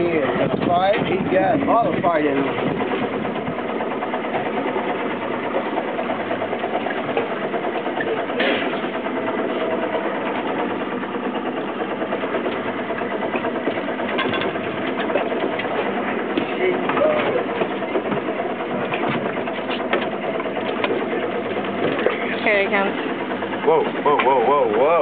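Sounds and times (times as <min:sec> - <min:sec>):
boat engine idling: 0:00.0 - 0:25.0.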